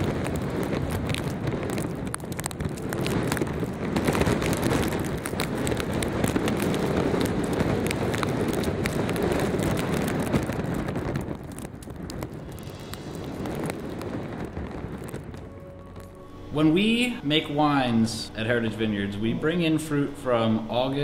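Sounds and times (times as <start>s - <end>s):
wind blowing over microphone: 0.0s - 21.0s.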